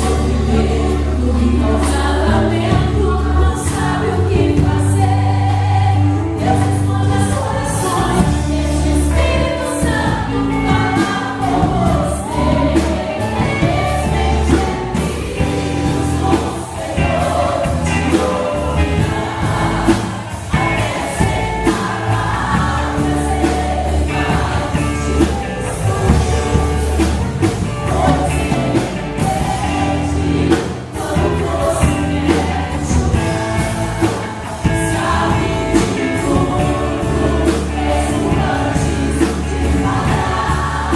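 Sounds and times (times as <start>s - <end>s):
bass line: 0.0s - 40.9s
drums and cymbals: 0.0s - 40.9s
voices singing gospel: 0.0s - 40.9s.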